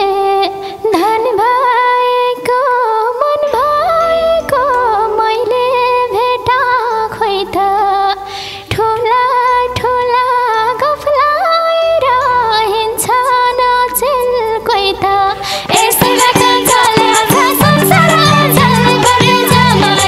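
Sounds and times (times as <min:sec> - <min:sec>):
ornamented melodic lead: 0:03.0 - 0:20.0.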